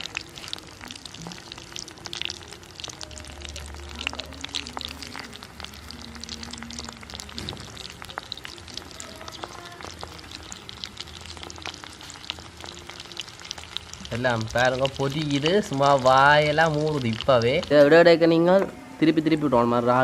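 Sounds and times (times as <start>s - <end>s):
prawns deep-frying in oil: 0.0s - 20.0s.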